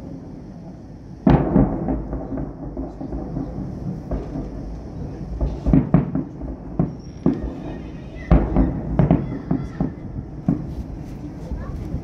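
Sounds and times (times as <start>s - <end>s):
distant fireworks booms: 0.0s - 12.0s
steady low rumble: 0.0s - 12.0s.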